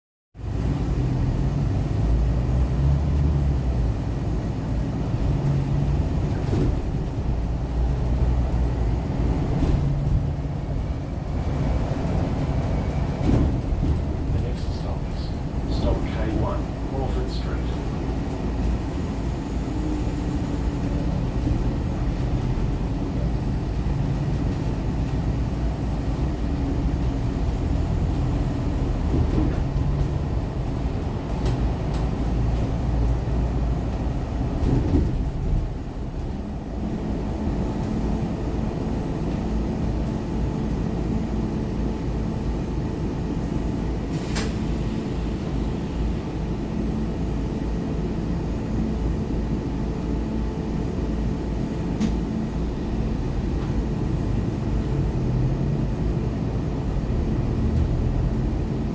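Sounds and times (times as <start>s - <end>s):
bus engine rumble: 0.4s - 58.9s.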